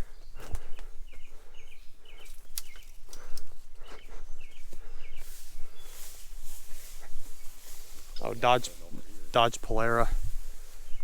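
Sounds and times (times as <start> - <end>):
footsteps crunching through weeds: 0.1 - 11.0.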